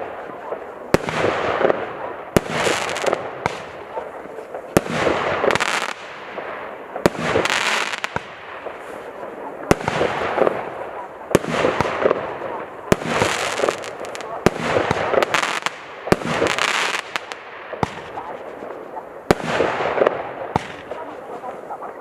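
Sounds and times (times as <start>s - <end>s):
firework bangs: 0.0s - 22.0s
firework crackling: 0.0s - 22.0s.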